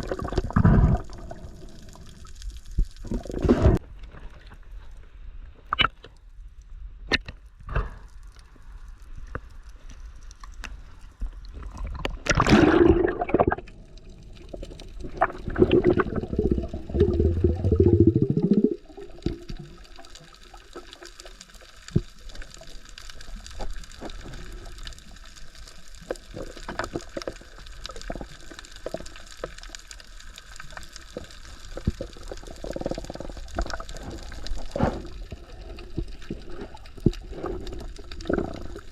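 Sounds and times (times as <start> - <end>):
rushes of water: 0.0 - 4.4, 11.5 - 38.9
sea water sloshing and gurgling: 0.0 - 4.9, 11.0 - 38.9.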